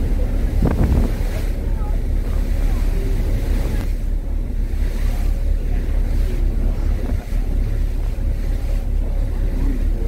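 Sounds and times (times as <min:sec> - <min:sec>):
faint engine hum: 0:00.0 - 0:10.0
steady low rumble: 0:00.0 - 0:10.0
wind buffeting microphone: 0:00.0 - 0:10.0.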